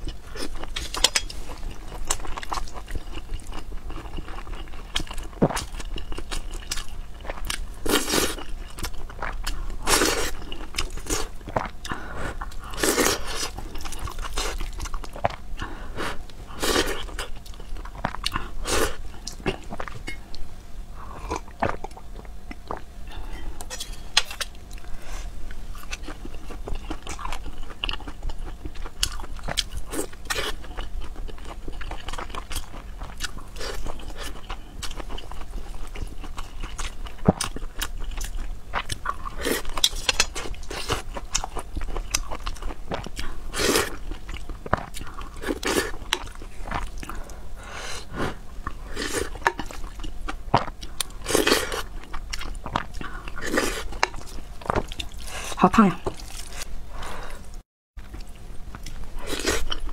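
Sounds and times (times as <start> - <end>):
person chewing food: 0.0 - 20.4, 21.0 - 59.9.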